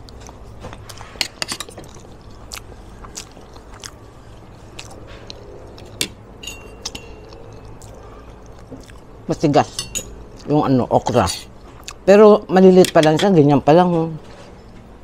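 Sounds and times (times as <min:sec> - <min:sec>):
person chewing food: 0:00.0 - 0:12.1.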